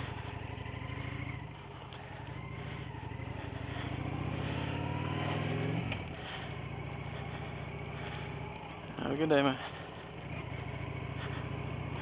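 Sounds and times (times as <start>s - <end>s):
engine idling and revving: 0.0s - 12.0s.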